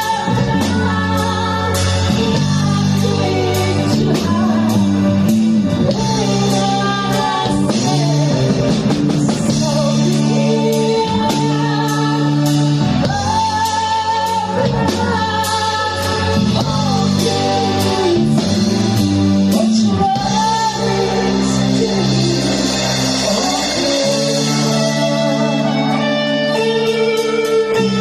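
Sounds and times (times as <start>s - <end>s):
drums: 0.0s - 28.0s
guitar: 0.0s - 28.0s
person singing: 0.0s - 28.0s.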